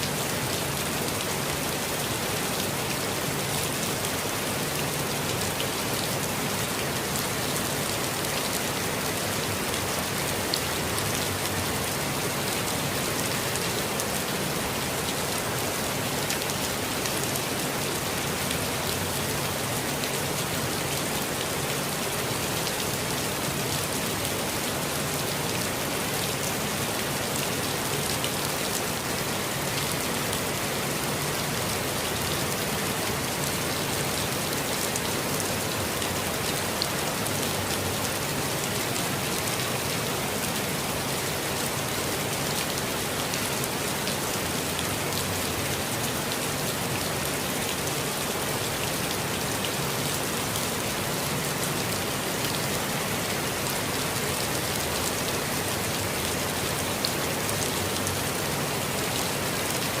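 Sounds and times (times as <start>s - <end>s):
rain falling on leaves: 0.0s - 60.0s.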